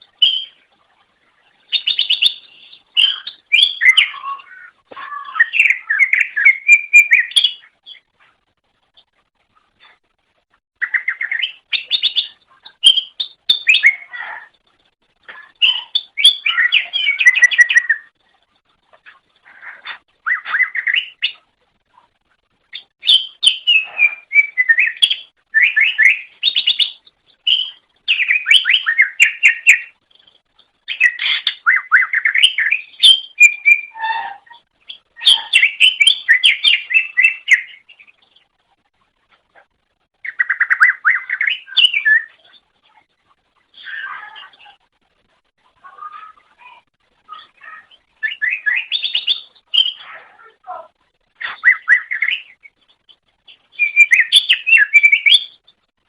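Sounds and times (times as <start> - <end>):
bird singing: 0.0 - 8.1, 10.8 - 14.6, 15.3 - 18.2, 19.0 - 21.5, 22.7 - 38.5, 40.2 - 43.0, 45.8 - 50.6, 51.4 - 55.8.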